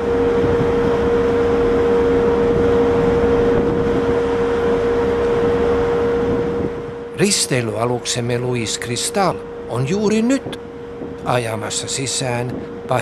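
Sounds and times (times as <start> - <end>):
constant rush of noise: 0.0 - 13.0
ship machinery humming: 0.0 - 13.0.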